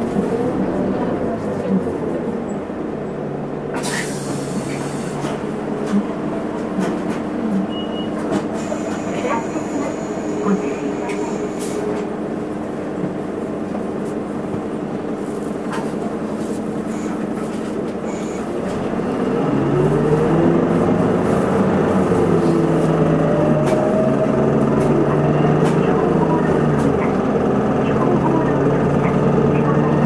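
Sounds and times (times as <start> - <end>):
bus diesel engine revving: 0.0 - 13.7, 18.4 - 30.0.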